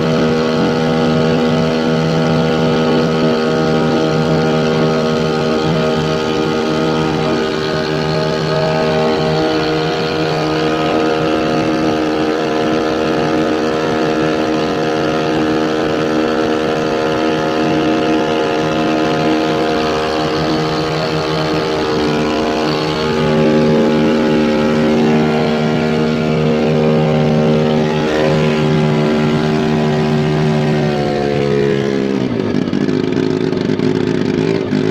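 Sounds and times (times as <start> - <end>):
small boat engine running: 0.0 - 34.9.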